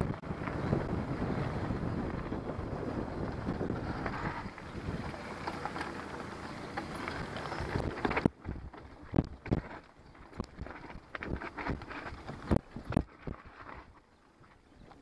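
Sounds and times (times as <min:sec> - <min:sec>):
wind on microphone: 0:00.0 - 0:05.6, 0:07.2 - 0:14.0
bike rattling and knocking: 0:00.0 - 0:14.0
bike tyres on dirt trail: 0:00.0 - 0:15.0.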